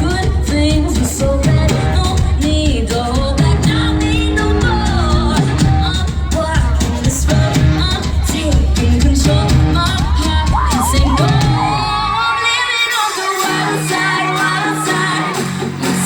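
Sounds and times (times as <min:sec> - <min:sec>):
live pop band with heavy bass: 0:00.0 - 0:16.0
woman singing: 0:00.0 - 0:16.0.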